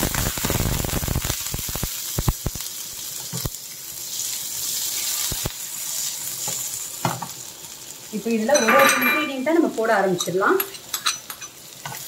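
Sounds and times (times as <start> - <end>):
butter sizzling in frying pan: 0.0 - 12.0.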